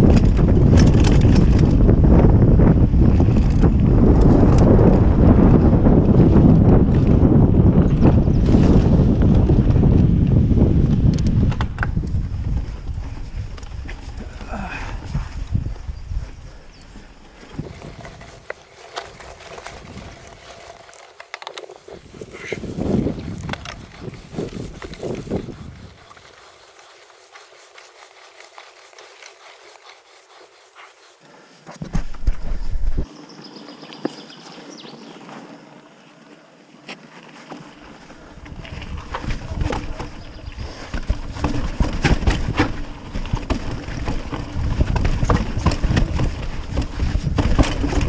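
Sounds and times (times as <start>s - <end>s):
bike rattling and knocking: 0.0s - 15.9s, 17.5s - 30.6s, 37.4s - 48.0s
bike tyres rolling over dirt: 0.0s - 31.2s, 31.8s - 48.0s.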